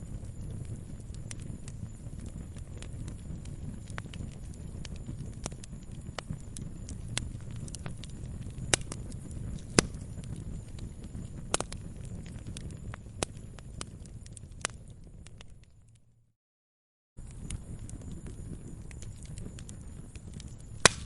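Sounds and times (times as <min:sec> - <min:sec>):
wood fire crackling and popping: 0:00.0 - 0:16.0, 0:17.2 - 0:21.0
fire low rumble: 0:00.0 - 0:16.3, 0:17.2 - 0:21.0.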